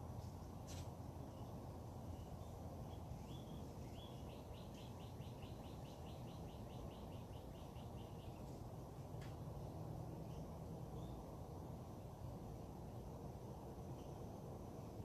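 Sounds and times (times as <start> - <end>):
songbird singing: 0.0 - 15.0
steady low background noise: 0.0 - 15.0.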